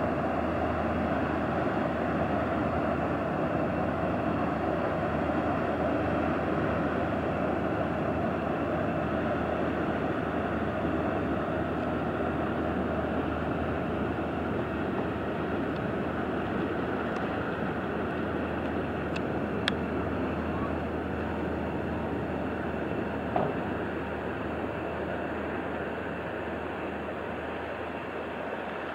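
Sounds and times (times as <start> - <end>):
boat diesel engine drone: 0.0 - 28.9
water rushing: 0.0 - 28.9
wind: 0.0 - 28.9.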